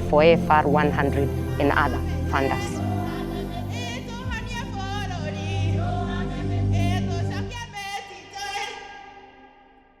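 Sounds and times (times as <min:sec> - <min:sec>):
voices singing with vibrato: 0:00.2 - 0:09.8.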